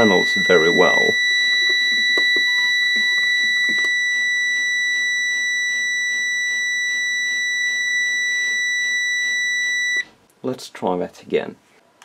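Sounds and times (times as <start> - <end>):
alarm buzzer high beep: 0.0 - 10.0.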